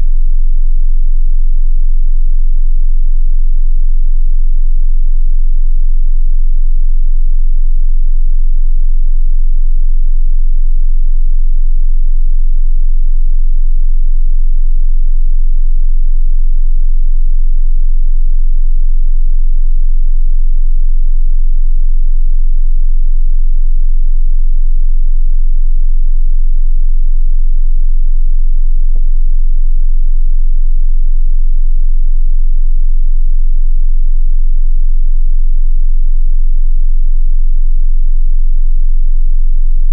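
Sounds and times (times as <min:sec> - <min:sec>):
deep bass test tone: 0:00.0 - 0:39.9.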